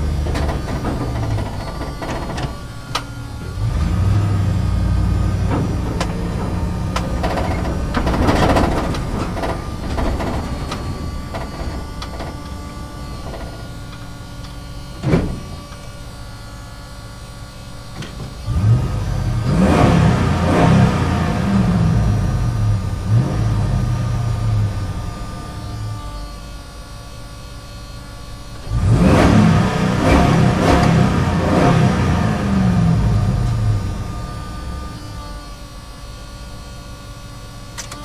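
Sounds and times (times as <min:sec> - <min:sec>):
truck engine revving: 0:00.0 - 0:17.0, 0:17.7 - 0:26.5, 0:27.8 - 0:35.6.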